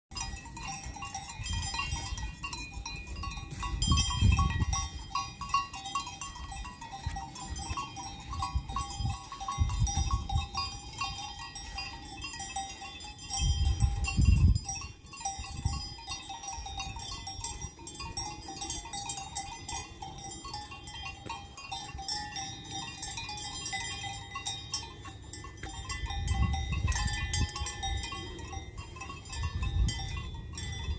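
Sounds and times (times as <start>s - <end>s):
wind rumble on microphone: 0.1s - 20.0s, 25.6s - 30.9s
livestock bells clanking: 0.1s - 30.9s.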